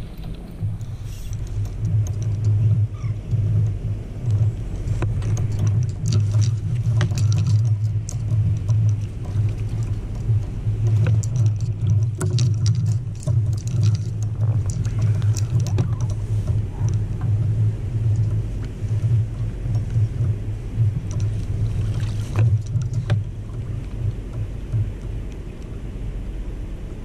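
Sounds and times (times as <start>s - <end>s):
fishing gear clicks and knocks: 0.0s - 25.4s
steady low rumble: 0.0s - 27.0s.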